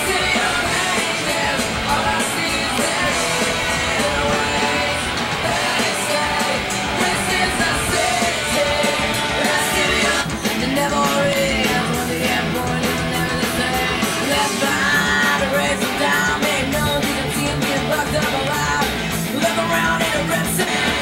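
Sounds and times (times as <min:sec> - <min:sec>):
rock music with singing: 0:00.0 - 0:21.0.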